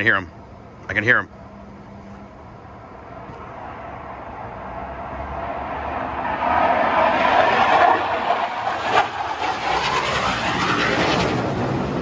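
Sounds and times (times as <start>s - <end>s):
jet passing overhead: 1.5s - 12.0s.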